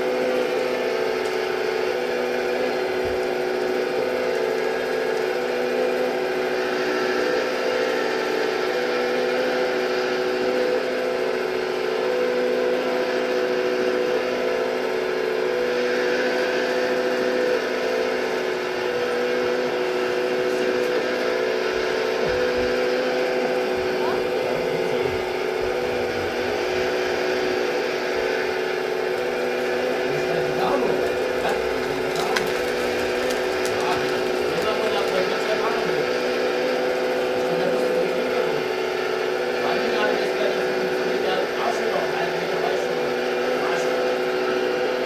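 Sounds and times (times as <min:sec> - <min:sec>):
hydraulic pump whine: 0:00.0 - 0:45.0.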